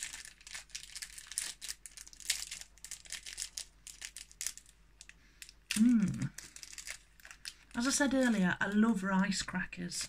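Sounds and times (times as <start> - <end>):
plastic snack packet crinkling: 0.0 - 10.0.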